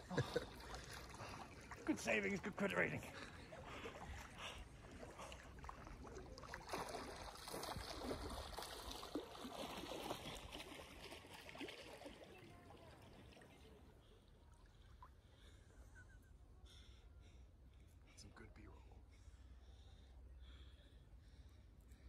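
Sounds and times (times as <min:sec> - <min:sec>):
lake water lapping: 0:00.0 - 0:22.0.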